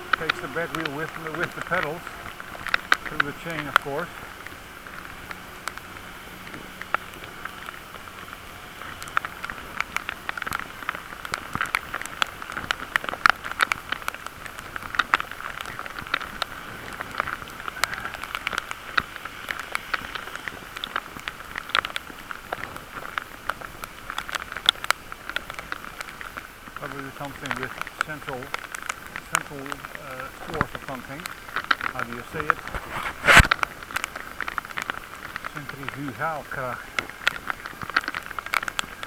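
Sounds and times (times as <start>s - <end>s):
muffled steady hiss: 0.0s - 39.0s
sharp clicks and crackles: 0.0s - 39.0s.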